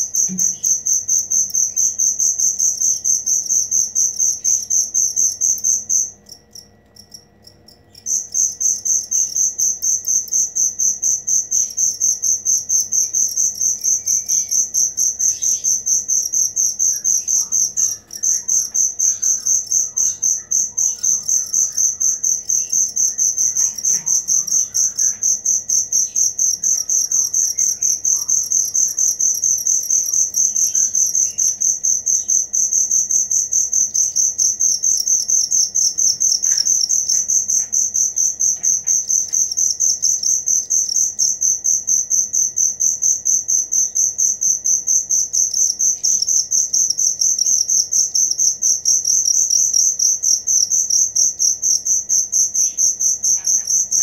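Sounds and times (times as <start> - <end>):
cricket trilling: 0.0 - 54.0.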